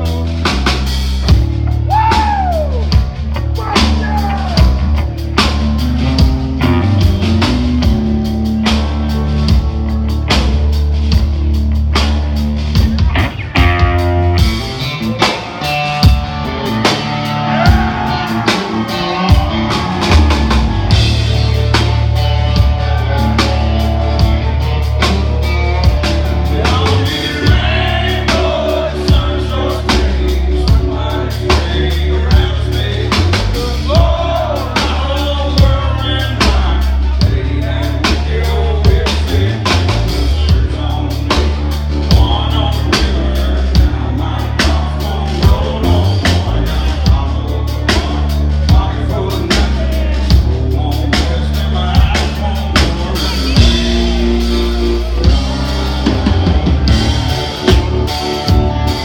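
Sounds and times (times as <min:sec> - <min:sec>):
drum kit beat: 0:00.0 - 0:59.0
electric bass: 0:00.0 - 0:59.0
electric guitars: 0:00.0 - 0:59.0
man singing: 0:00.0 - 0:59.0.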